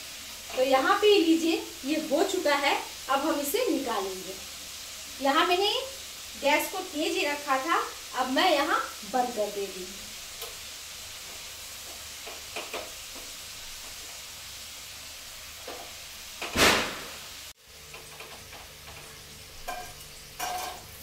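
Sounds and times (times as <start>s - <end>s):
food sizzling in deep fryer: 0.0s - 21.0s.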